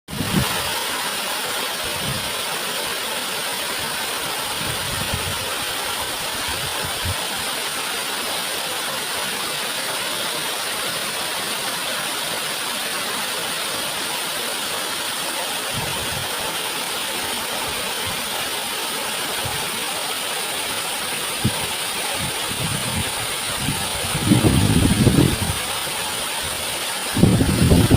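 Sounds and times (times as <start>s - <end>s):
waterfall roaring: 0.1s - 27.9s.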